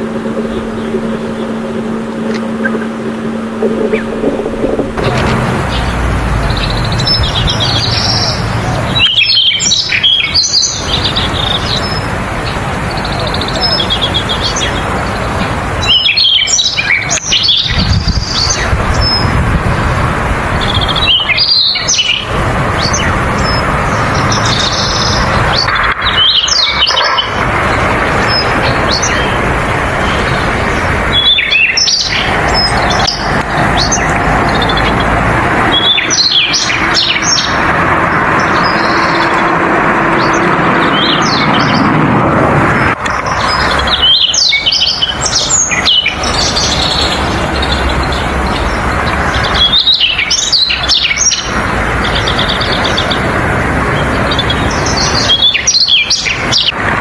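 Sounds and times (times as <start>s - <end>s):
bird singing: 0.0s - 19.6s, 20.4s - 42.0s, 42.8s - 56.8s.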